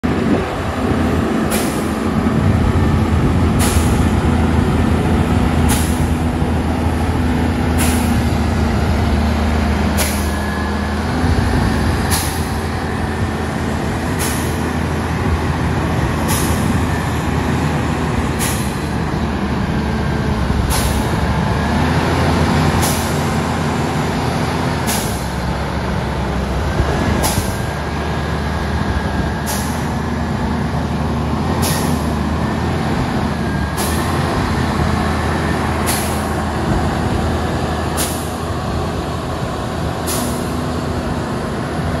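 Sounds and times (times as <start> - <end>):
diesel engine droning: 0.0 - 42.0.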